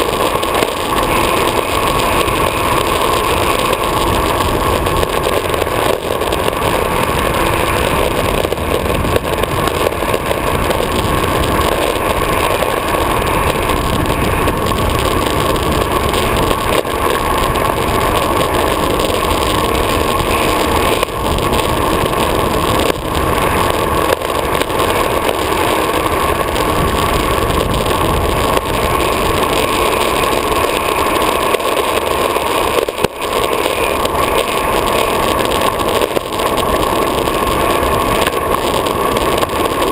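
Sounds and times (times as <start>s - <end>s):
longboard wheels rolling on asphalt: 0.0s - 39.9s
wind rushing over camera: 0.0s - 39.9s.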